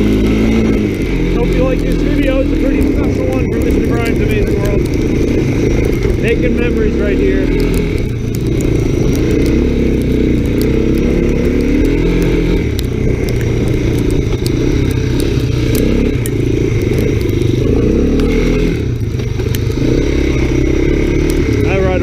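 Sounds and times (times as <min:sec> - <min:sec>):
three-wheeler engine revving: 0:00.0 - 0:22.0
ticks and scrapes: 0:00.0 - 0:22.0.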